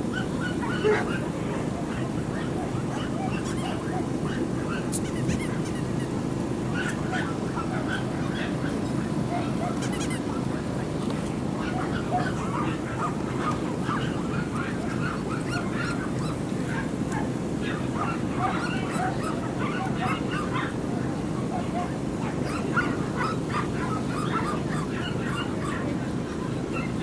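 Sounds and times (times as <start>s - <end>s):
dogs yapping and barking: 0.0s - 27.0s.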